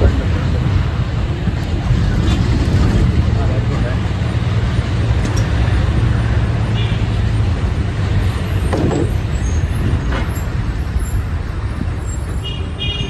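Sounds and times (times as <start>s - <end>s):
road traffic engine rumble: 0.0s - 13.0s.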